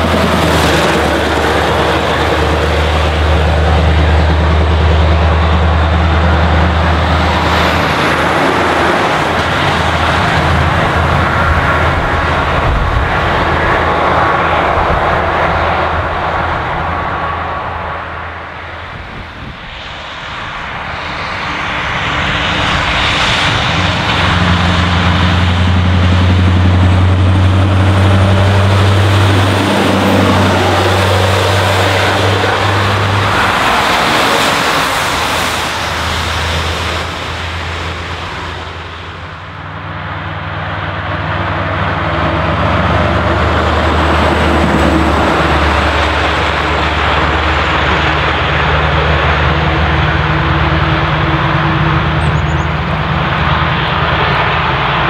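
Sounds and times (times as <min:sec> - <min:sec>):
diesel truck driving past: 0:00.0 - 0:19.3, 0:21.4 - 0:55.0.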